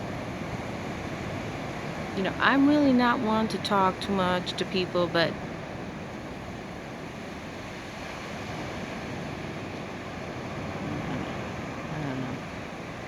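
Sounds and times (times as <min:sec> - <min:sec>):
surf washing on beach: 0:00.0 - 0:13.0
wind on microphone: 0:00.0 - 0:13.0.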